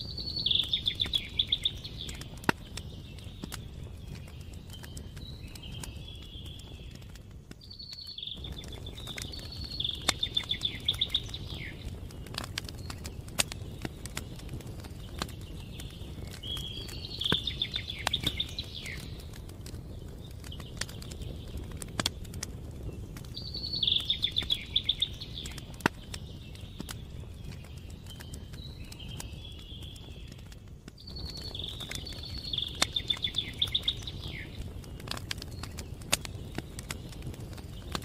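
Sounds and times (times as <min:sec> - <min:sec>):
campfire crackling: 0:00.0 - 0:38.0
songbird singing: 0:00.0 - 0:38.0.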